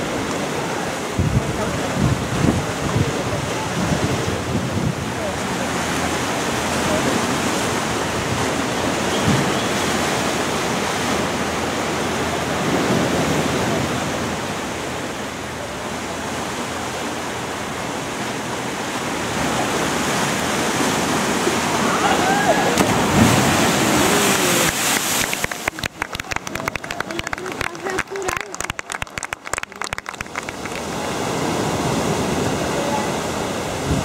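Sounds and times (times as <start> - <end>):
sea surf rushing against rocks: 0.0 - 34.0.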